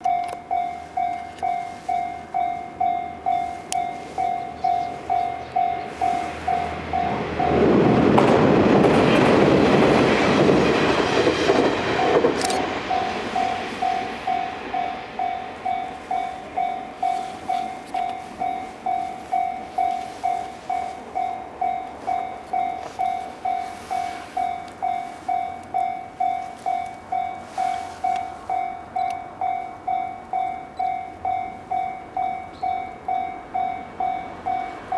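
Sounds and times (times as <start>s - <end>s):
level crossing bell dinging: 0.0s - 7.6s, 12.9s - 34.9s
train passing with rail noise: 0.0s - 34.9s.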